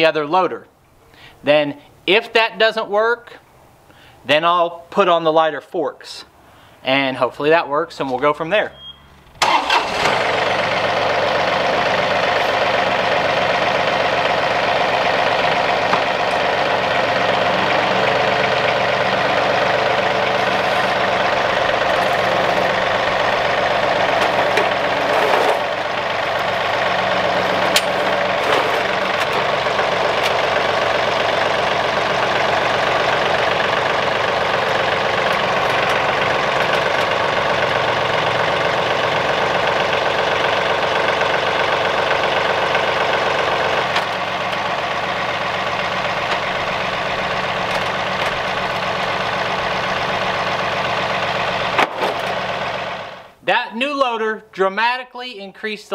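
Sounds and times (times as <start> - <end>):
diesel tractor engine running: 8.2 - 53.4.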